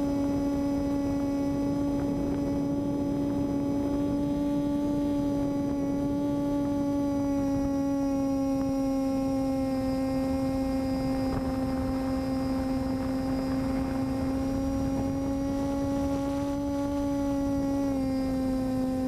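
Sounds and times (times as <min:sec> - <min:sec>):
model airplane motor humming: 0:00.0 - 0:19.0.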